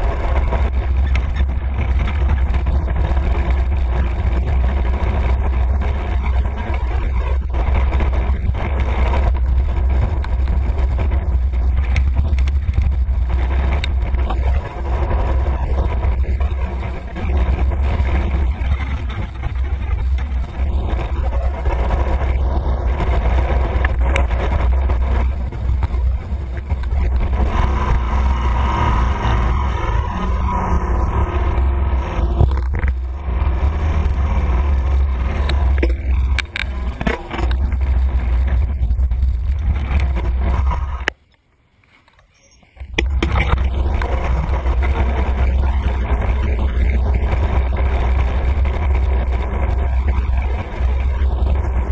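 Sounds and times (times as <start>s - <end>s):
wind buffeting microphone: 0.0s - 41.1s, 42.7s - 51.9s
traffic and tyre noise: 0.0s - 51.9s.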